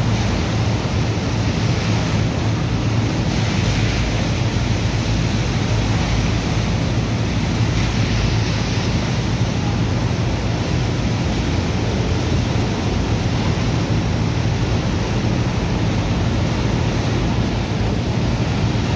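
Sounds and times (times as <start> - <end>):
pumping machinery hum: 0.0 - 18.9.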